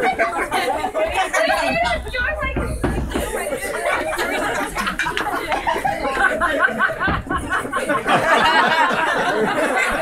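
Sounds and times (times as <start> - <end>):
audience chattering: 0.0 - 10.0
audience laughing: 0.0 - 10.0.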